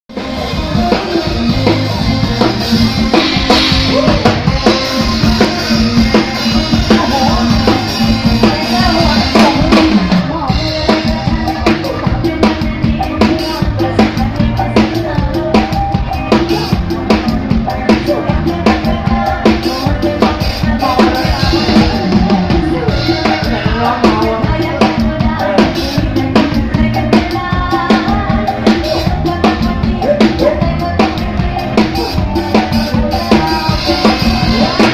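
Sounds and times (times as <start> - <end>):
drum kit beat: 0.1 - 34.9
live band music: 0.1 - 34.9.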